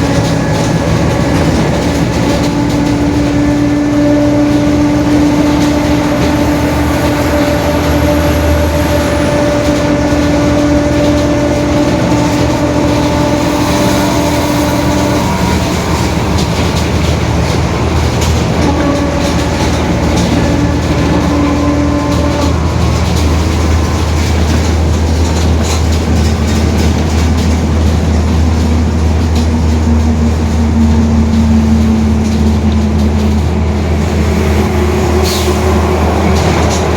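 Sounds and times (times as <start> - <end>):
bus engine low rumble: 0.0 - 36.9.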